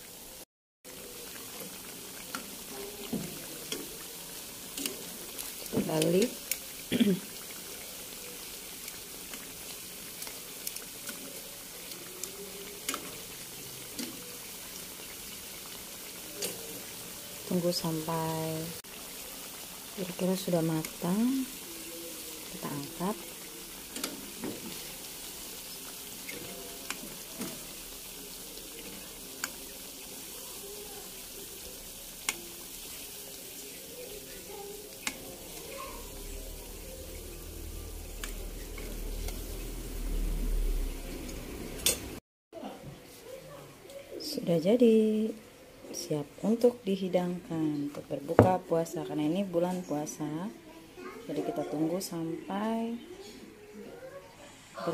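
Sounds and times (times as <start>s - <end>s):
hot oil sizzling: 0.0s - 42.2s, 44.2s - 53.8s.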